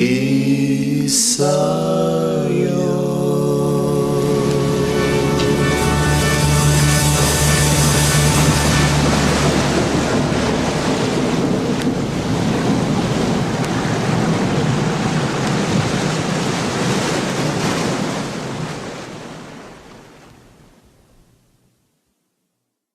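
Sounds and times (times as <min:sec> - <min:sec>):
ocean waves breaking: 0:00.0 - 0:21.1.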